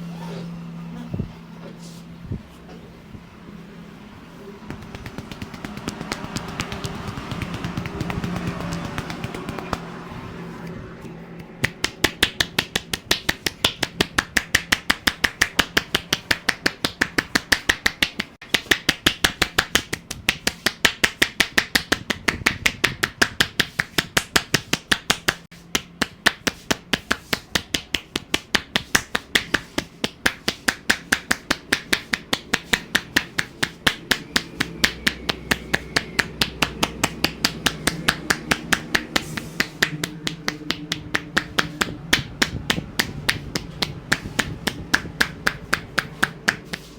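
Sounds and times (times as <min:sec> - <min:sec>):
hands striking in rapid claps: 0:04.7 - 0:09.9, 0:11.4 - 0:46.9.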